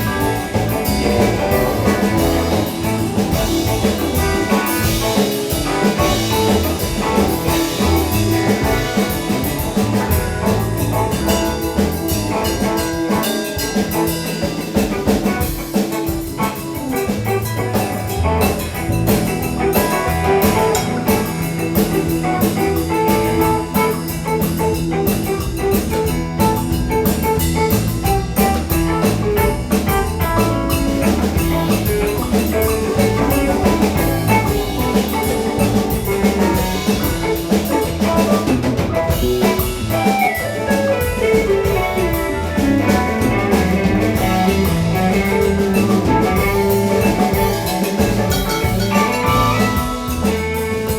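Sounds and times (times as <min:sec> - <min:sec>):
live band playing: 0:00.0 - 0:50.9.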